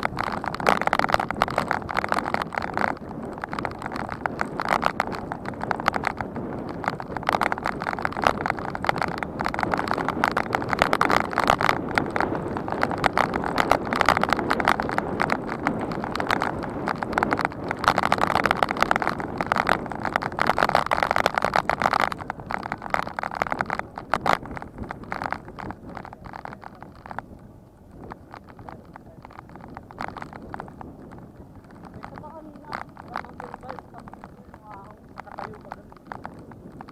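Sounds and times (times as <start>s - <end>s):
bicycle rattling over rough ground: 0.0s - 36.9s.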